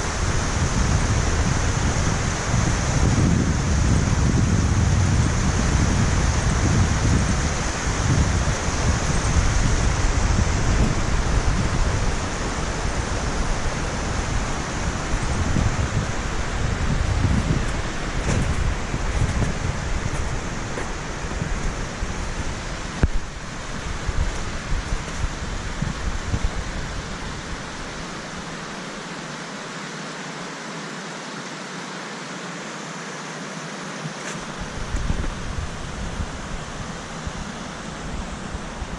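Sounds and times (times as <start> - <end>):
wind on microphone: 0.0 - 28.8, 34.4 - 38.9
waterfall roaring: 0.0 - 31.7, 32.3 - 38.9.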